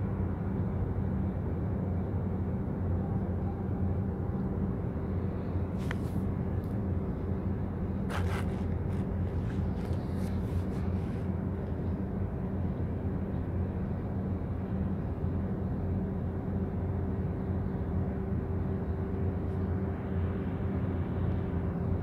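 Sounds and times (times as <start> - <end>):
ship diesel engine drone: 0.0 - 22.0.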